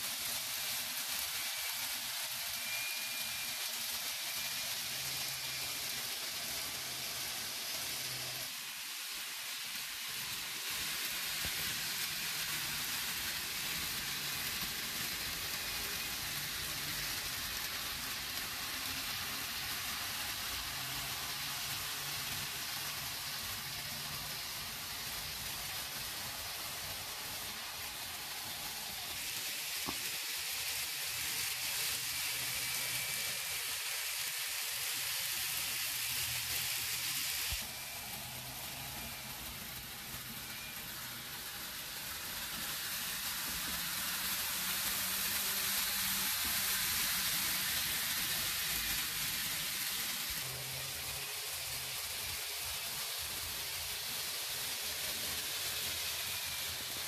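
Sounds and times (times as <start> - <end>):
model trains whirring on track: 0.0 - 57.0.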